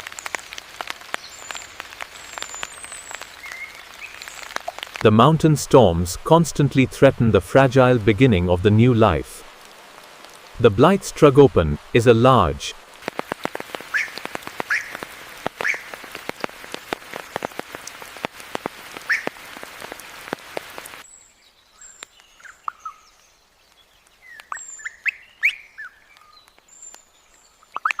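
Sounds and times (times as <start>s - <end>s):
rain falling in forest: 0.0s - 28.0s.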